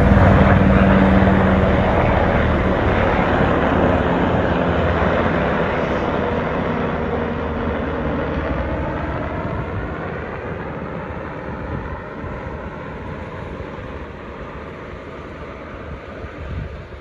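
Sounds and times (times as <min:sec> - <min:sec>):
helicopter flying away: 0:00.0 - 0:17.0.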